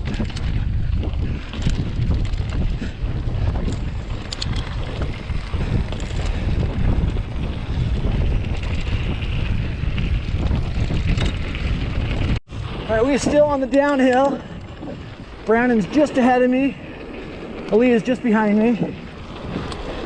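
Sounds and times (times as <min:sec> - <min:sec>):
bike tyre noise on trail: 0:00.0 - 0:20.0
wind buffeting microphone: 0:00.0 - 0:20.0.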